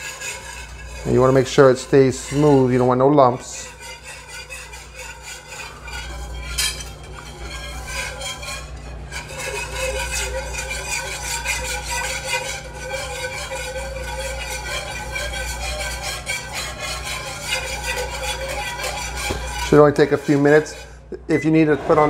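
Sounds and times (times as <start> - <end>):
whisk clink: 0.0 - 20.9
whisk scraping a pan: 0.0 - 22.0.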